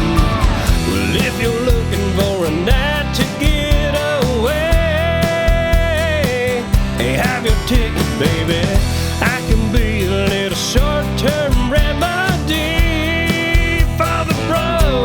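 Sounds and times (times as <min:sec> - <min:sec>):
country song with full band: 0:00.0 - 0:15.0.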